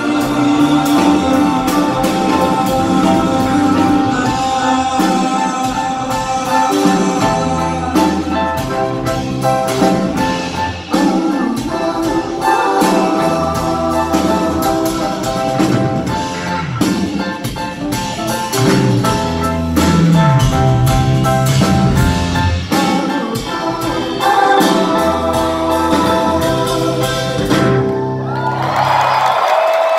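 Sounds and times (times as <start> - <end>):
drum kit: 0.0 - 29.9
keyboards: 0.0 - 29.9.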